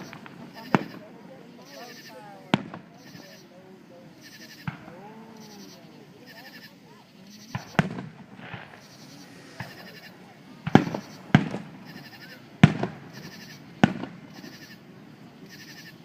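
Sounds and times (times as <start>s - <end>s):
fireworks bursting with bangs: 0.0s - 16.0s.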